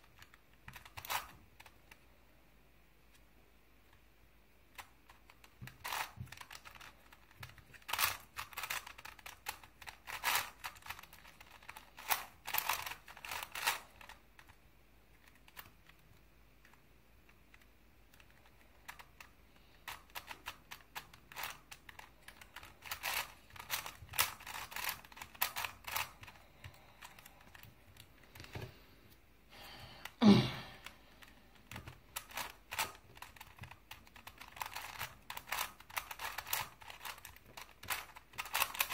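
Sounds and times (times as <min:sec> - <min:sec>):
puzzle cube clicking: 0:00.0 - 0:02.1, 0:04.7 - 0:29.2, 0:30.8 - 0:38.9.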